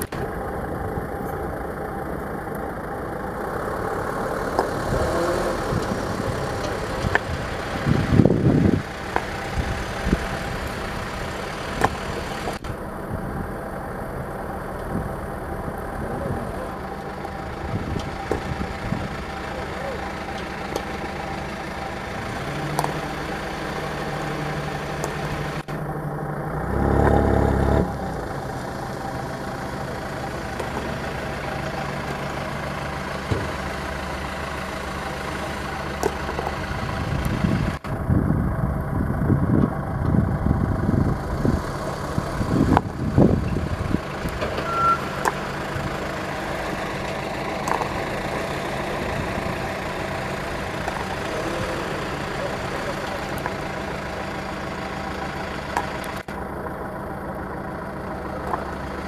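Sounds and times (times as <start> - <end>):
diesel truck engine revving: 0.0 - 59.0.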